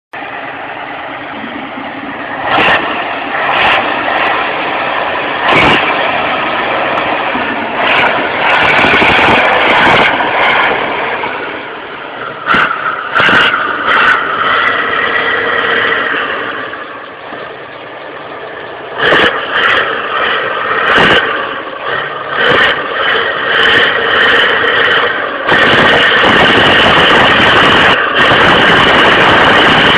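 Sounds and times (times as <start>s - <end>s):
tractor engine revving: 0.1s - 29.9s.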